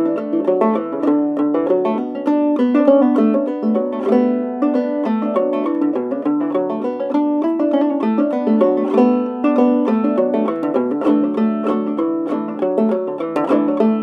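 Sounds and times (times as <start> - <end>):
clawhammer banjo music: 0.0 - 14.0.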